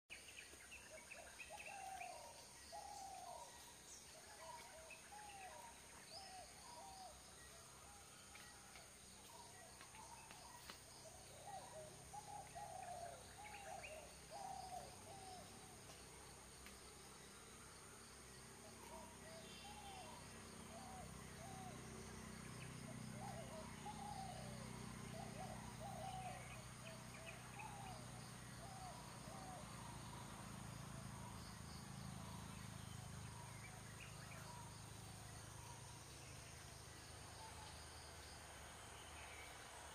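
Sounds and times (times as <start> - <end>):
crickets droning: 0.1 - 39.9.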